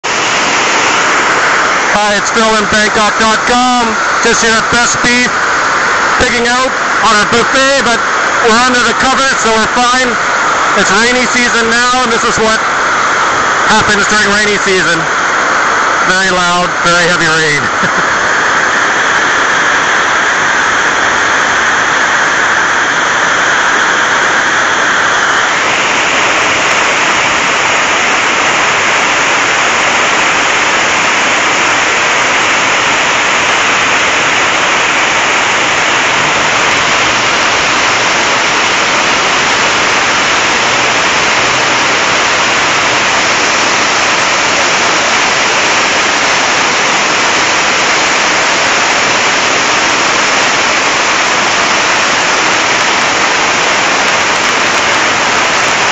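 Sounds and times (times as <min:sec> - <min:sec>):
heavy rain on a tin roof: 0:00.0 - 0:55.9.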